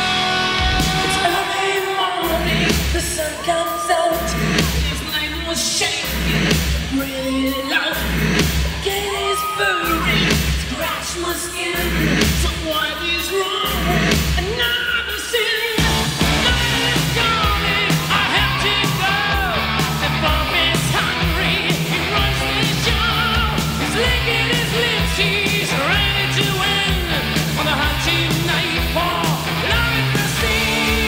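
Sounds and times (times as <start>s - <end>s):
rock music with singing: 0.0s - 31.0s.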